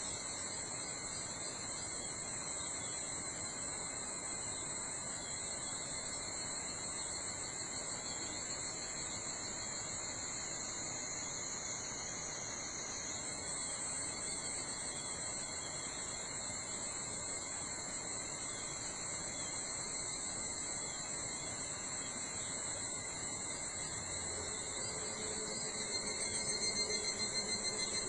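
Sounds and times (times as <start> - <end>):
insects trilling: 0.0 - 28.0
pulsing insect call: 0.0 - 28.0.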